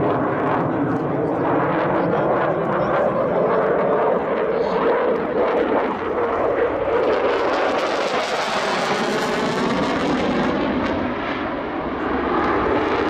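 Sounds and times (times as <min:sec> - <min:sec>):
fighter jet engine noise: 0:00.0 - 0:13.0.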